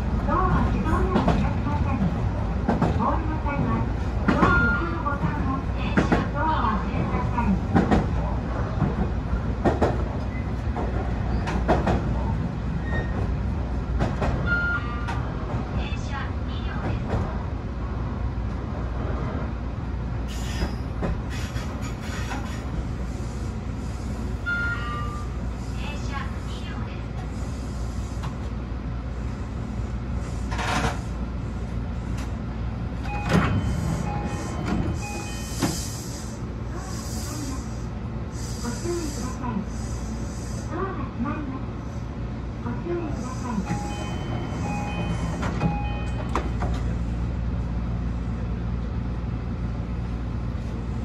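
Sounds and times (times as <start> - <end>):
train rumbling on rails: 0.0 - 51.0.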